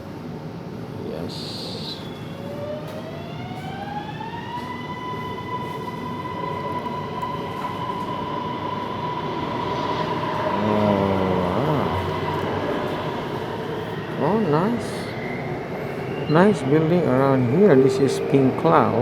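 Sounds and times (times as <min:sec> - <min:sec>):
train ride noise: 0:00.0 - 0:19.0
train traction motor whine: 0:01.5 - 0:19.0.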